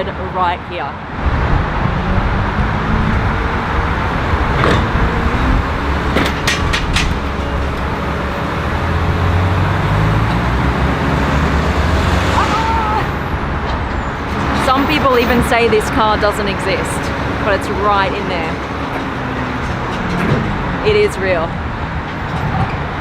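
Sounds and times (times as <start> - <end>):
traffic noise: 0.0 - 23.0
large vehicle engine running: 1.0 - 23.0.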